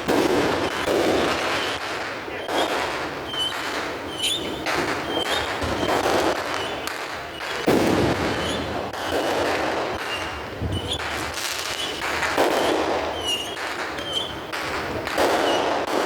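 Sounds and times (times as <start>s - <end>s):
fireworks bangs and crackling: 0.0s - 16.0s
fireworks whistles: 0.0s - 16.0s.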